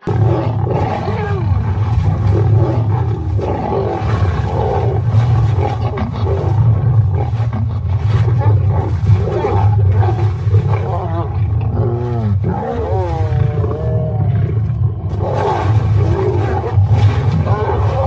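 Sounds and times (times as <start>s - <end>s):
lions growling and roaring: 0.0s - 18.0s.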